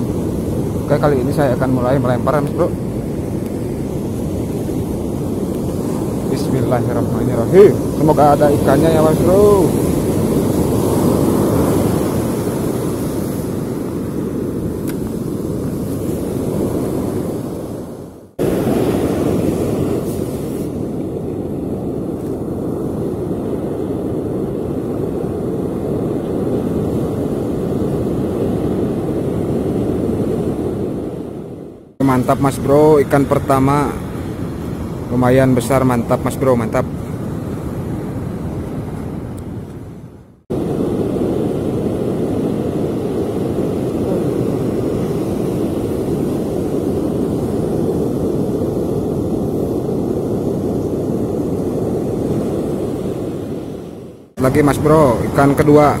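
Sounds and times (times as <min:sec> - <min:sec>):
wind buffeting microphone: 0:00.0 - 0:35.4, 0:36.5 - 0:56.0
sea surf roaring: 0:00.0 - 0:56.0.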